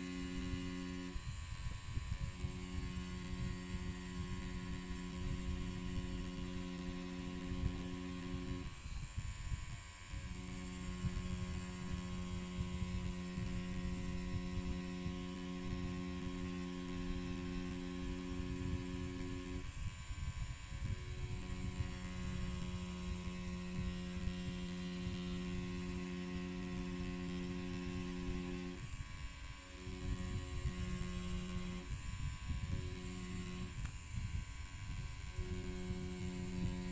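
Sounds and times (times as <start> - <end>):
tattoo machine humming: 0.0 - 36.9.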